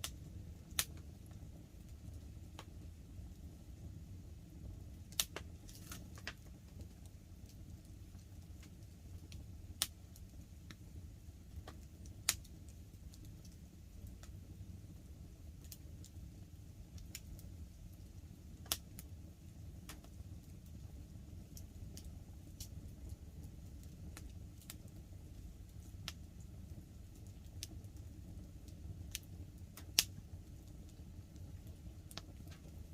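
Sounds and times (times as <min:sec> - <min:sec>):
sharp pops of fire: 0:00.0 - 0:02.9, 0:04.5 - 0:14.4, 0:16.9 - 0:19.1, 0:21.3 - 0:32.9
campfire crackling: 0:00.0 - 0:32.9.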